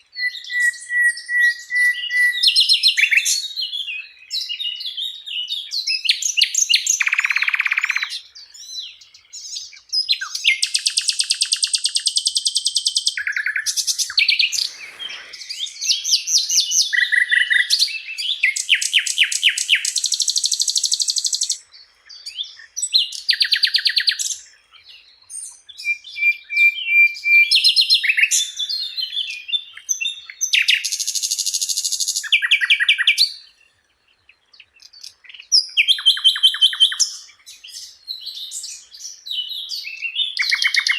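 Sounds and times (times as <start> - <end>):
bird singing trills: 0.0 - 40.9.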